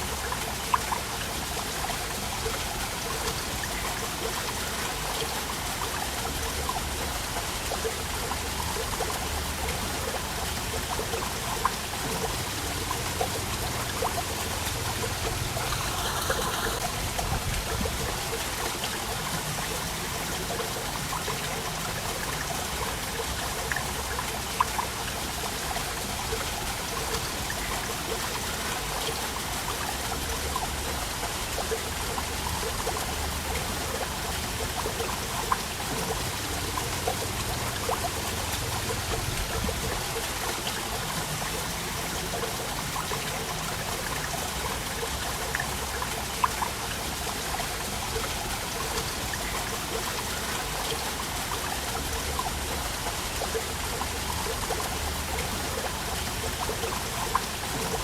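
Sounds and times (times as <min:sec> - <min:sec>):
small water splashes: 0:00.0 - 0:58.0
waterfall rushing: 0:00.0 - 0:58.0.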